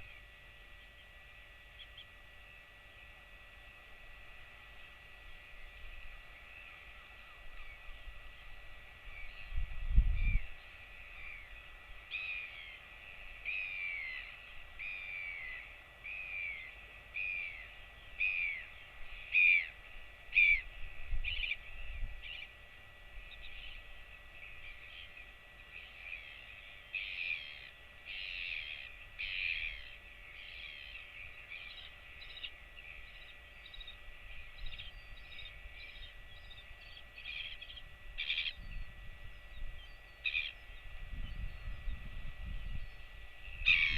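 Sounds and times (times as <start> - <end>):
bird calling with whistled notes: 0.0 - 3.1, 5.2 - 43.9
faint steady hum: 0.0 - 43.9.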